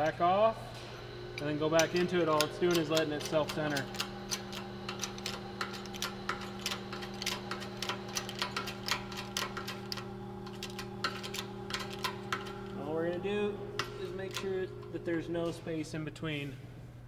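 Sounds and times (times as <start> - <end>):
hydraulic press humming: 0.0 - 17.0.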